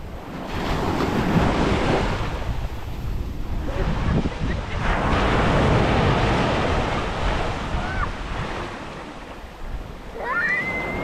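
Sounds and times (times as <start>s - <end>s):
ocean surf breaking on beach: 0.0s - 11.0s
wind buffeting microphone: 0.0s - 11.0s.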